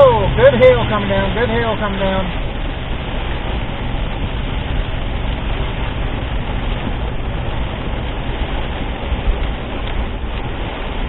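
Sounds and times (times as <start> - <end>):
hail and rain on vehicle: 0.0 - 11.0
low rumble: 0.0 - 11.0.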